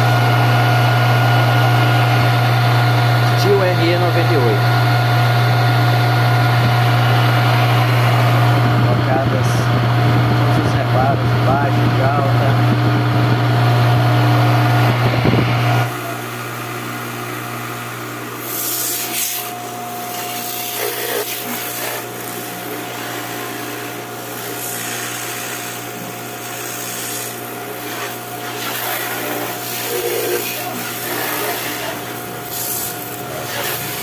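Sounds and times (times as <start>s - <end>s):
pressure washer motor hum: 0.0s - 34.0s.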